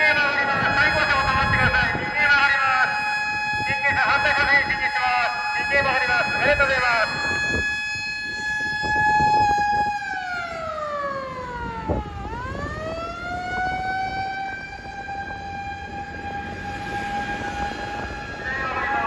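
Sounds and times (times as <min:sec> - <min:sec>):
mechanical siren wailing: 0:00.0 - 0:19.0
traffic noise: 0:00.0 - 0:19.0.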